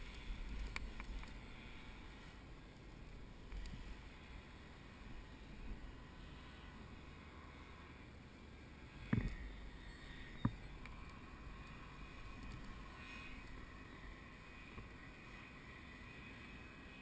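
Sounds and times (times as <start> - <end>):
distant paraglider engine drone: 0.0 - 17.0.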